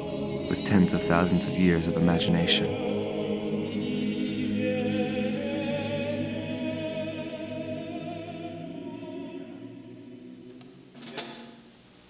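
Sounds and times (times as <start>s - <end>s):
choir holding a chord: 0.0s - 10.9s.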